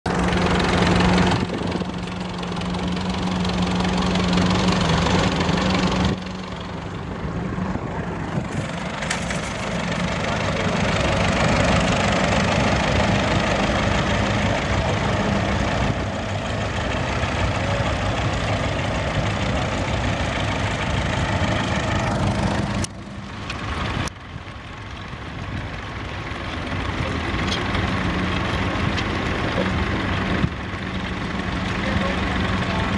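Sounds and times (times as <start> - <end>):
tractor engines under load: 0.1 - 32.9.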